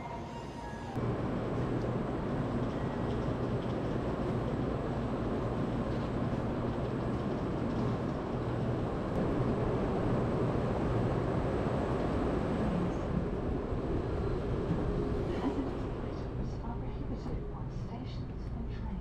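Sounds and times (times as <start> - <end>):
station platform hum and rumble: 0.0 - 19.0.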